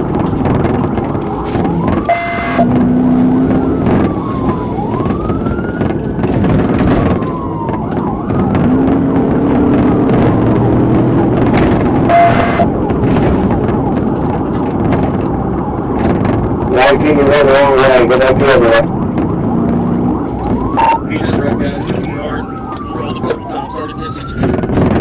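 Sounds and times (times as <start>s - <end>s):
car engine and road noise: 0.0s - 25.0s
police siren wailing: 0.0s - 25.0s.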